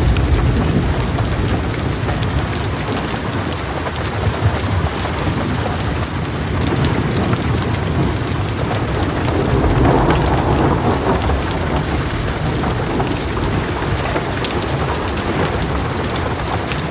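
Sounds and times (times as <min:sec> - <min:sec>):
heavy rain on a metal roof: 0:00.0 - 0:16.9
low rumble of thunder: 0:00.0 - 0:16.9.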